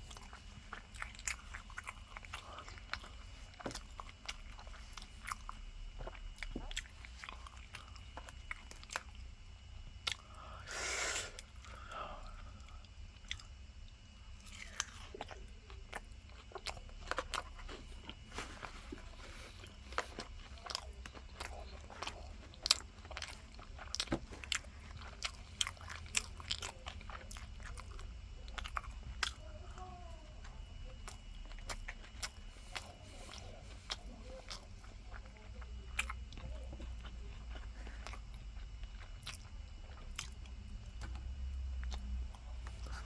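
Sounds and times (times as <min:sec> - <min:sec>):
crunchy chewing of fried food: 0:00.0 - 0:43.0.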